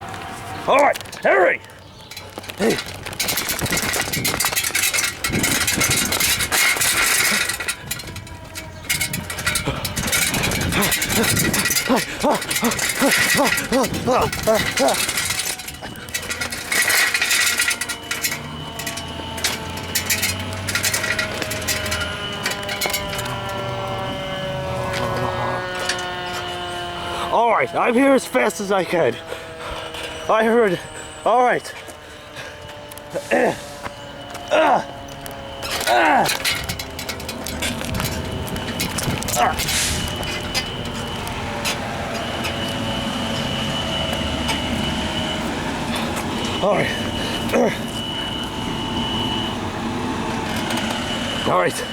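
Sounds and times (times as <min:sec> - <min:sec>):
street traffic rumble: 0:00.0 - 0:51.9
fire alarm high-pitched tone: 0:03.8 - 0:51.9.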